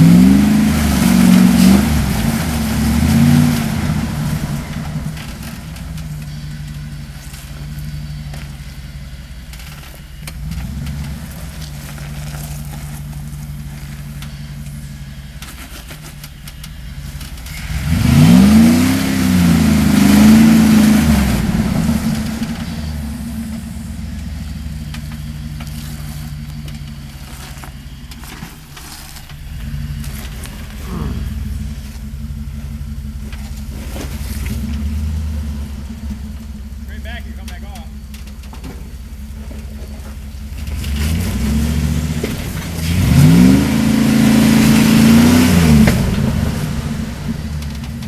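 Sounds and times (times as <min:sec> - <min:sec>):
off-road engine idling and revving: 0:00.0 - 0:48.0.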